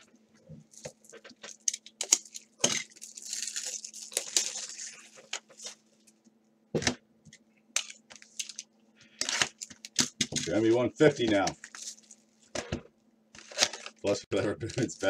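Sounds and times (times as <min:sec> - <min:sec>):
faint steady hum: 0:00.0 - 0:15.0
plastic wrap crinkling: 0:00.6 - 0:06.1, 0:07.8 - 0:12.8, 0:13.4 - 0:15.0.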